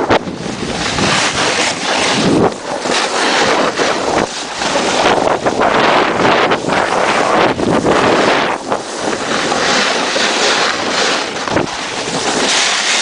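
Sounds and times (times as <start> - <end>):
wind rushing over microphone: 0.0 - 13.0
skis sliding over snow: 0.1 - 13.0.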